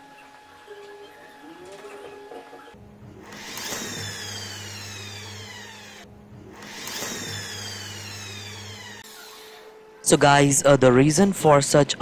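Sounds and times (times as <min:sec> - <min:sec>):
motor whirring whine: 0:00.0 - 0:10.2.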